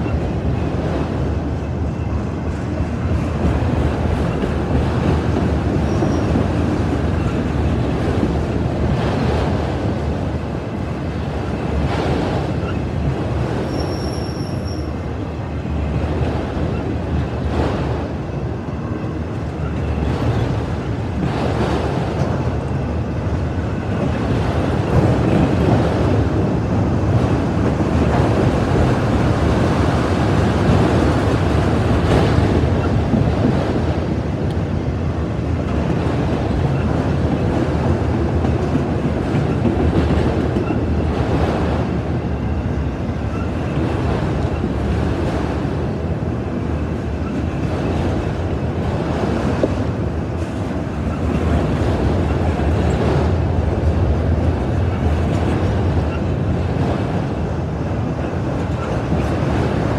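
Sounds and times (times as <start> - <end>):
freight cars rolling on rails: 0.0 - 59.9.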